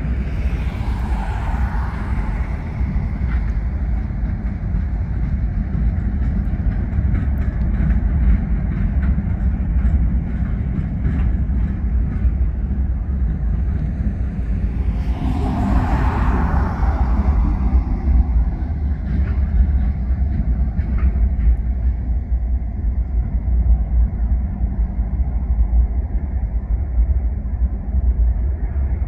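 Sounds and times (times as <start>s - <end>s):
diesel locomotives rumbling: 0.0s - 29.0s.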